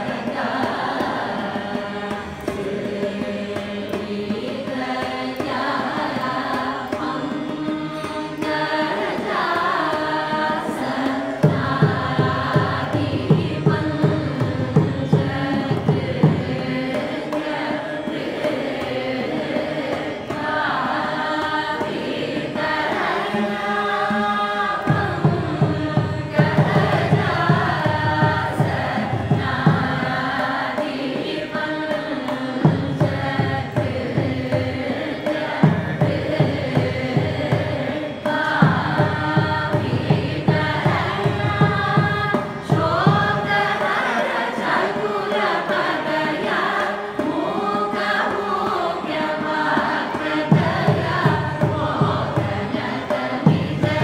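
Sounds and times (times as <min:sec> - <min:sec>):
group of voices singing: 0:00.0 - 0:54.0
hand drum strokes: 0:00.0 - 0:54.0.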